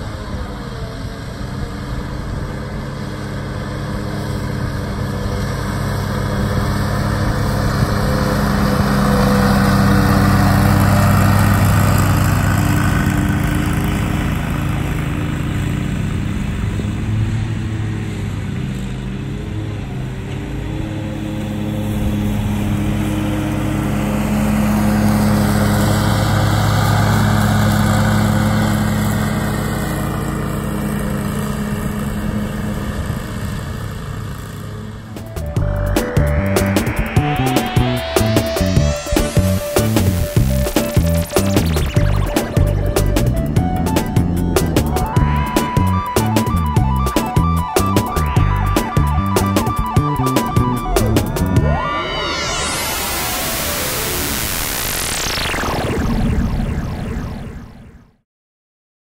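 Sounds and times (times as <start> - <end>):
riding mower engine running: 0.0 - 55.5.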